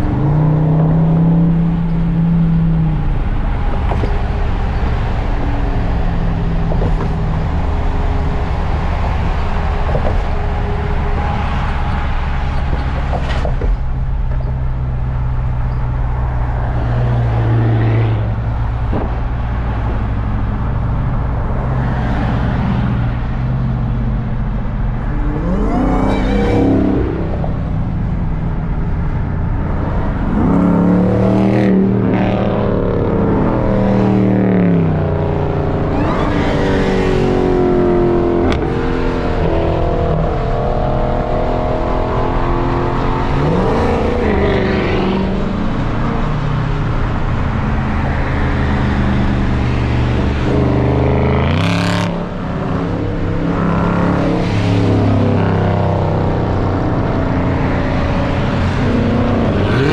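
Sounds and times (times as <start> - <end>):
car engines accelerating and revving: 0.0 - 59.9.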